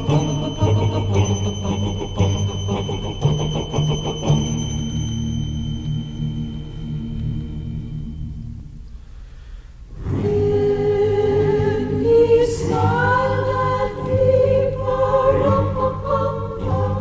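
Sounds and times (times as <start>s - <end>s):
choral singing: 0.0s - 8.4s, 9.9s - 17.0s.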